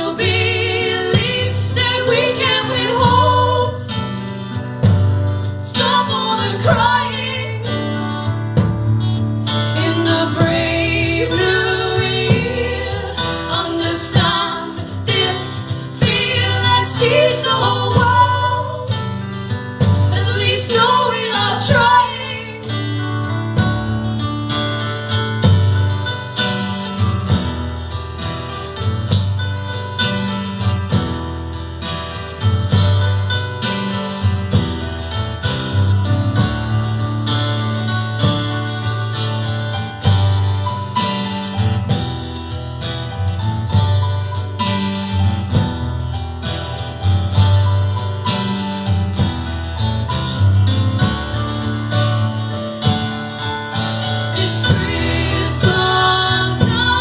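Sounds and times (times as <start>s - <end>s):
acoustic guitar strumming chords: 0.0s - 57.0s.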